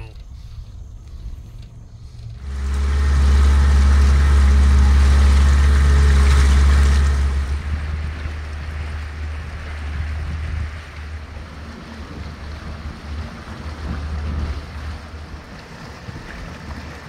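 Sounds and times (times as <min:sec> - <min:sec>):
outboard motor droning: 0:00.0 - 0:17.0.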